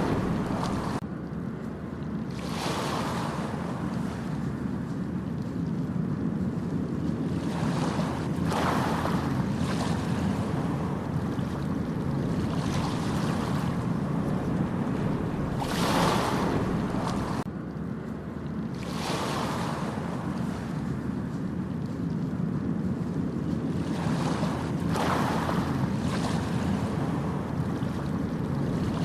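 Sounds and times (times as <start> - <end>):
waves breaking on beach: 0.0 - 1.0, 2.3 - 17.5, 18.7 - 29.0
low rumble of sea: 0.0 - 29.0
wind: 0.0 - 29.0.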